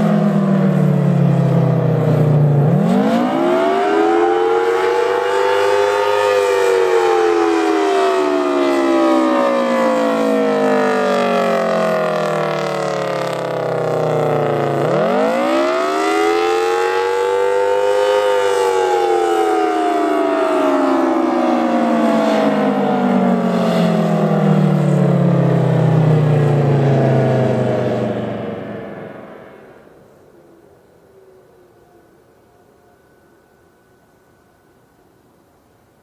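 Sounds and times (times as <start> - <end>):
siren winding up and down: 0.0 - 29.8.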